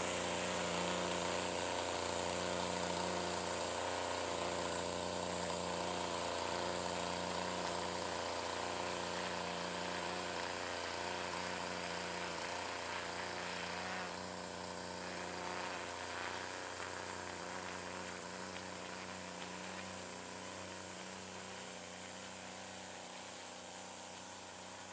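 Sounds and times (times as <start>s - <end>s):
string trimmer engine running: 0.0s - 24.9s.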